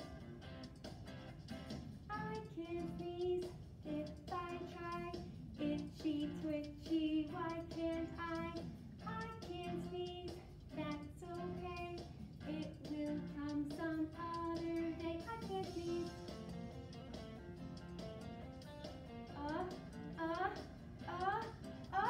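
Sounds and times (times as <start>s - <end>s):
musical accompaniment: 0.0s - 22.0s.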